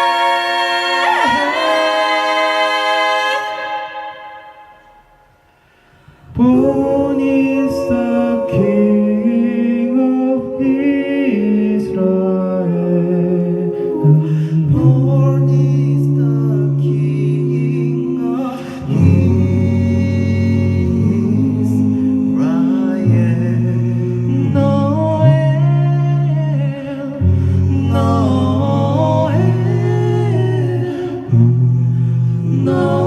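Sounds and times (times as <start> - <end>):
vocal group singing in harmony: 0.0 - 33.0.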